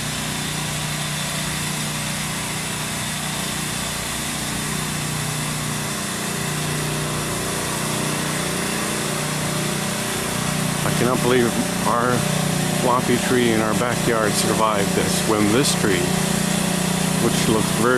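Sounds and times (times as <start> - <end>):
small engine running: 0.0 - 17.9.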